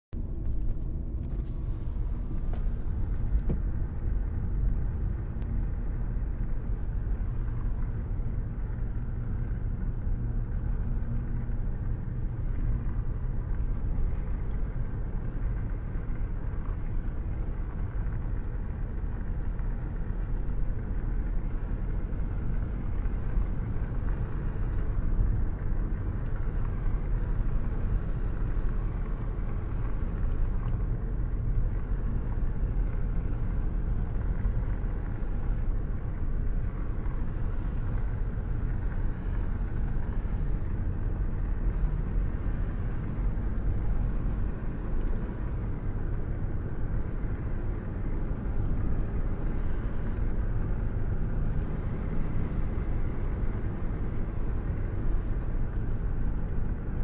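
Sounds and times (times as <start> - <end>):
wind and road noise in car: 0.1 - 57.0.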